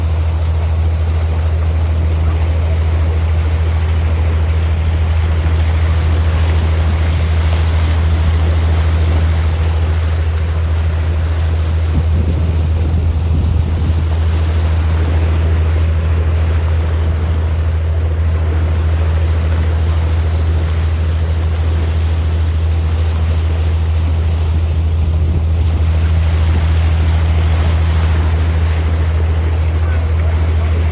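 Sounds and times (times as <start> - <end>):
boat engine droning: 0.0 - 30.9
water rushing: 0.0 - 30.9
wind: 0.0 - 30.9.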